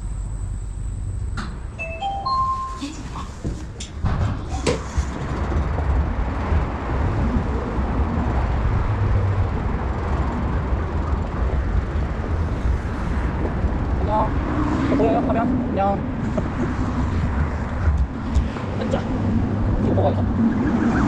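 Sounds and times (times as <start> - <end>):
wind rushing on microphone: 3.0 - 21.0.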